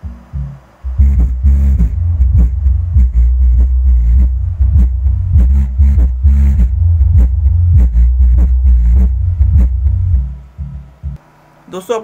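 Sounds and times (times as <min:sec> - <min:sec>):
deep bass music beat: 0:00.0 - 0:11.2.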